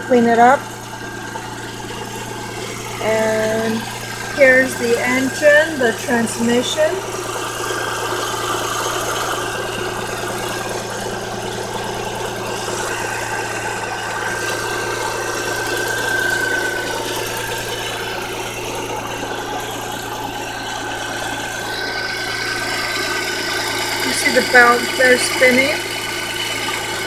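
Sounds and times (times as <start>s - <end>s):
car engine idling: 0.0s - 27.0s
engine belts spinning: 0.0s - 27.0s.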